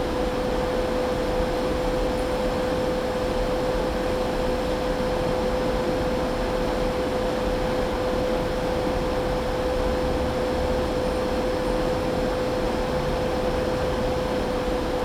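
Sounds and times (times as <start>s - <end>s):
steady mid-pitched whine: 0.0s - 15.0s.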